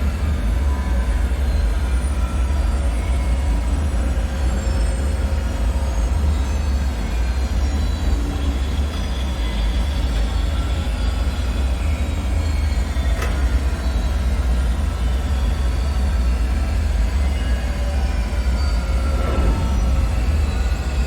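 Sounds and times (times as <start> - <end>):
deep rumbling drone: 0.0 - 21.0
faint drifting whining tones: 0.0 - 21.0.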